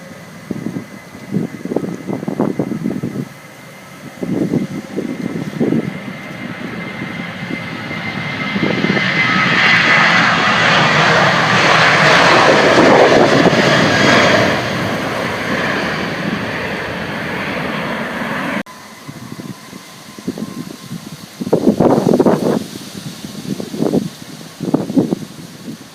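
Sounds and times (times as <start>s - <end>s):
high steady whine: 0.0s - 25.9s
jet engines roaring: 0.0s - 25.9s
wind noise: 0.0s - 25.9s.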